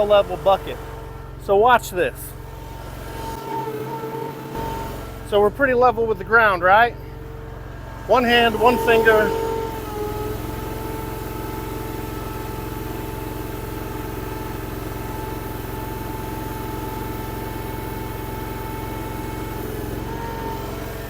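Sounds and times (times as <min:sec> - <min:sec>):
engine running under load: 0:00.0 - 0:21.0
hydraulic whine: 0:00.0 - 0:21.0.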